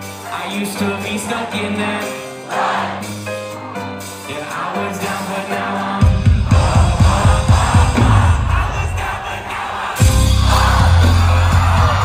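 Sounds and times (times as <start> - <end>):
loud live concert music: 0.0 - 12.0.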